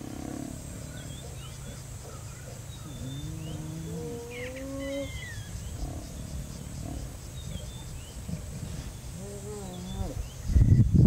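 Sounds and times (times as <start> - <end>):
hyenas calling: 0.0 - 10.3.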